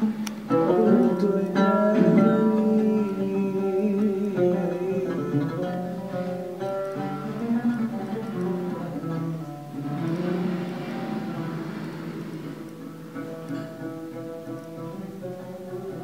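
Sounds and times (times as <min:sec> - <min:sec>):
plucked string instrument melody: 0:00.0 - 0:16.0.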